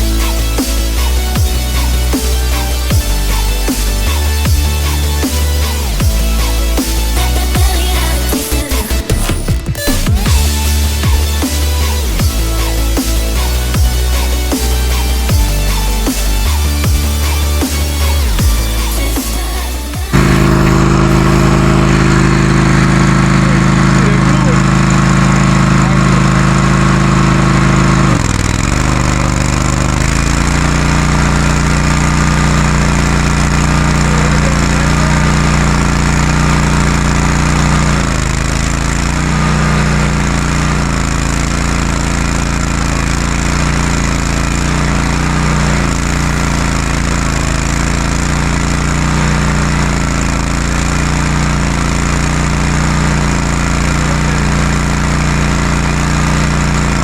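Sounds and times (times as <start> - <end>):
cutter wheel grinding wood: 0.0 - 57.0
stump grinder engine running hard: 0.0 - 57.0.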